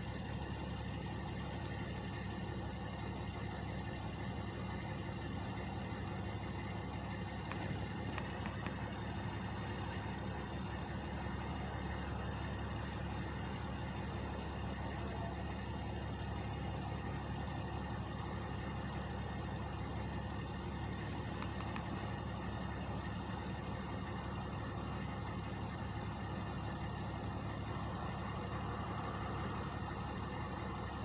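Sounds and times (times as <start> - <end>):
truck engines idling: 0.0 - 31.0.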